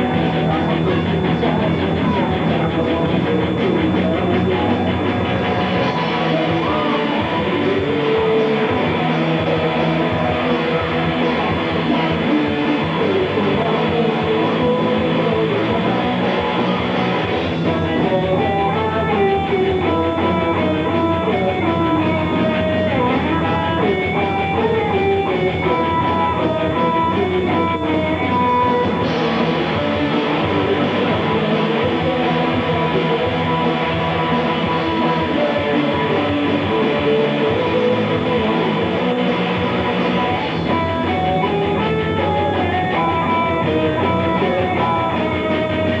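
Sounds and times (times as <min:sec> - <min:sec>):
lead electric guitar line: 0:00.0 - 0:46.0
live rock band playing: 0:00.0 - 0:46.0.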